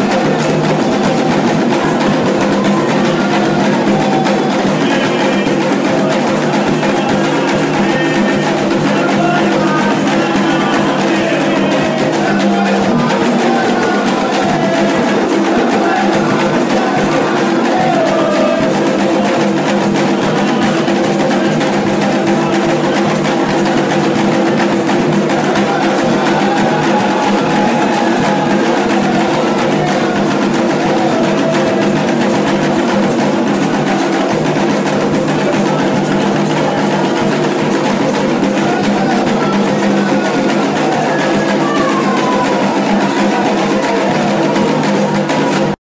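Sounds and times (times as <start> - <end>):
hand drums: 0.0 - 45.8
people singing: 0.0 - 45.8
struck percussion: 0.0 - 45.8.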